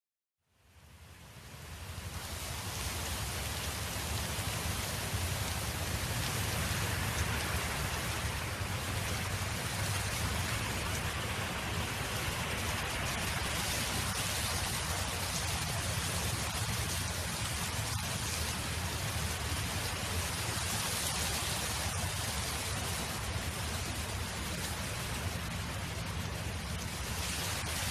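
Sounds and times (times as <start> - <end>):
wind blowing across a field: 0.5 - 27.9.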